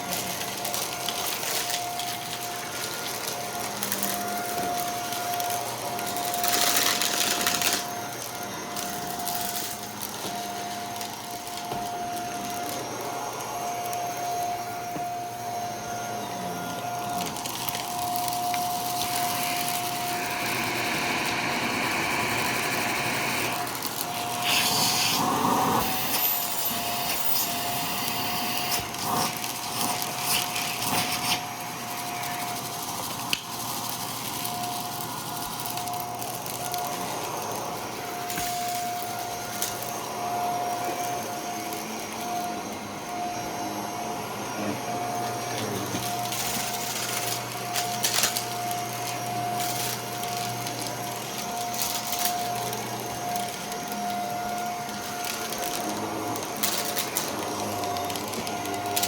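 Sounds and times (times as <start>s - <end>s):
debris rattling in vacuum: 0.0s - 15.7s, 16.6s - 43.4s, 44.8s - 59.0s
vacuum cleaner running: 0.0s - 59.0s.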